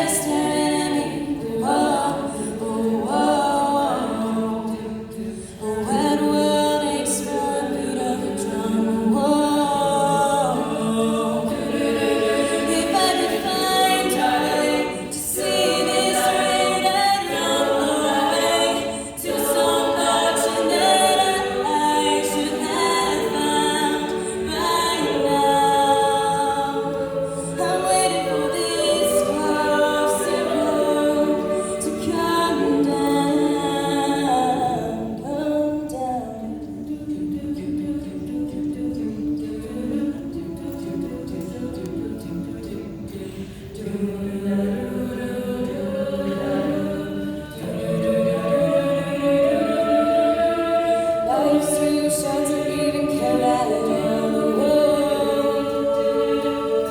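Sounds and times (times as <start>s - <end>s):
a cappella group singing: 0.0s - 56.9s.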